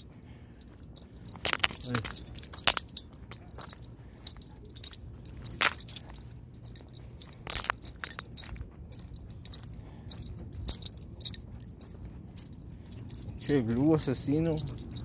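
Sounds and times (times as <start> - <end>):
chain collar jingling: 0.0 - 15.0.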